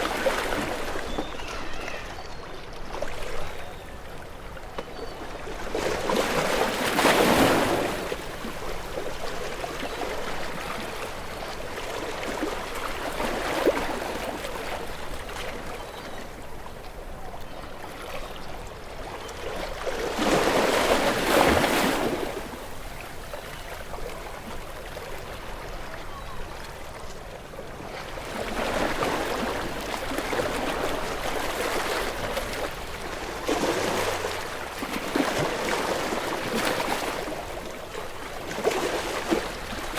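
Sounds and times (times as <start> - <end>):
ocean waves against rocks: 0.0 - 1.8, 5.4 - 16.4, 19.6 - 39.9.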